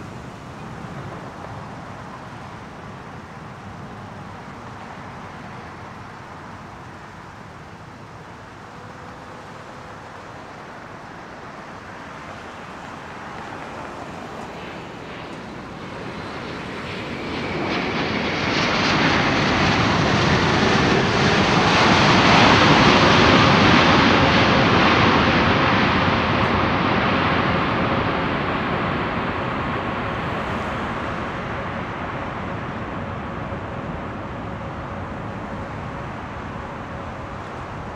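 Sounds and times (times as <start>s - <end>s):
jet airliner engine roar: 0.0s - 37.9s.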